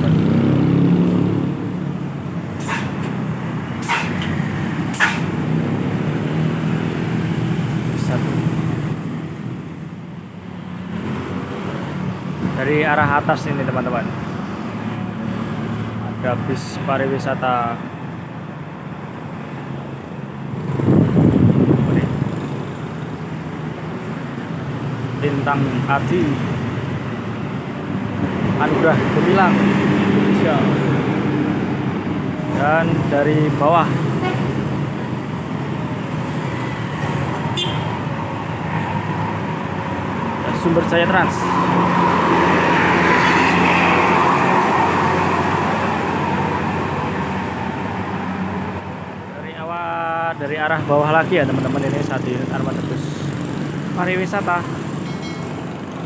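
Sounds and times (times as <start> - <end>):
bus engine and tyre noise: 0.0 - 56.0.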